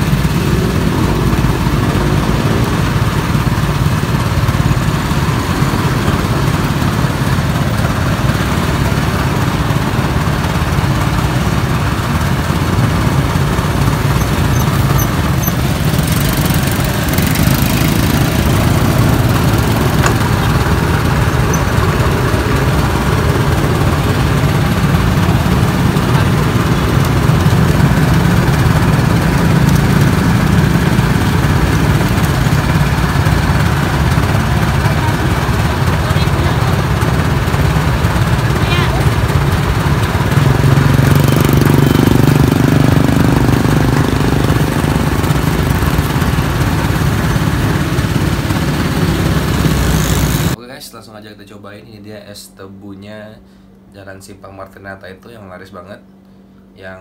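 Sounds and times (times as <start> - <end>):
juice press machine humming: 0.0 - 50.6
street traffic: 0.0 - 50.6.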